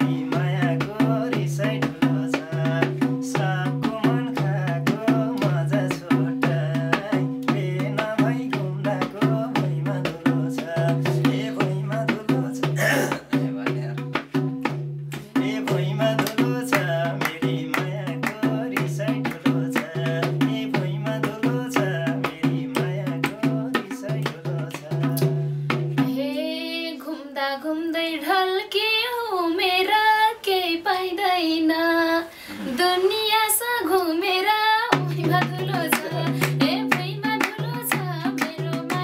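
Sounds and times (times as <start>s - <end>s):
fast drum rhythm: 0.0s - 26.5s, 33.8s - 39.0s.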